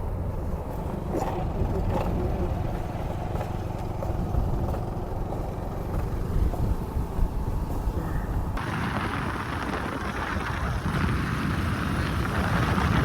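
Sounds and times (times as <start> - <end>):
vehicle rumbling along road: 0.0 - 13.0.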